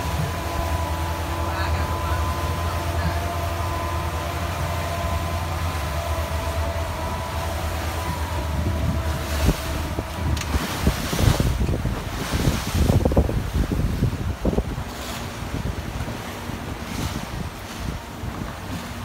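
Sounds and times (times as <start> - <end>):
outboard motors droning: 0.0 - 19.0
water splashing against hull: 0.0 - 19.0
wind buffeting microphone: 0.0 - 19.0.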